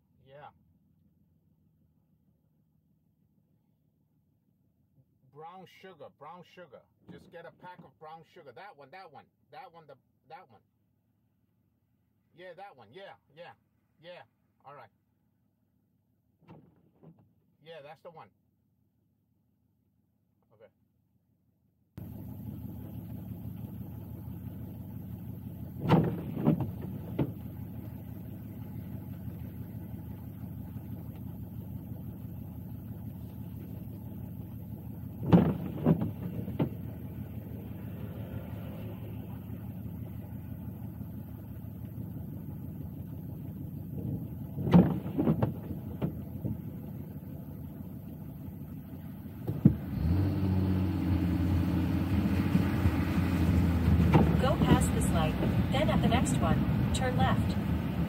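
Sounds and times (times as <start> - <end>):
car engine and road hum: 0.0 - 10.5, 16.3 - 18.2, 22.0 - 58.0.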